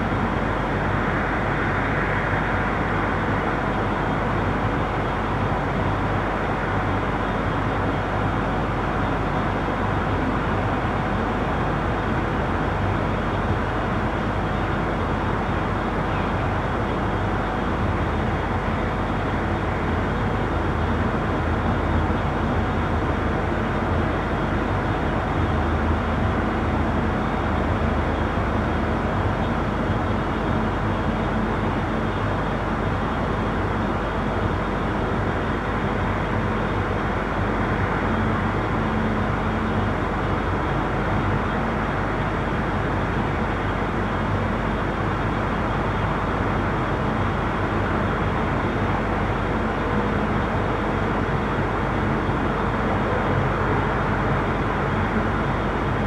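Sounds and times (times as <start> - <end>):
city street traffic rumble: 0.0 - 56.0.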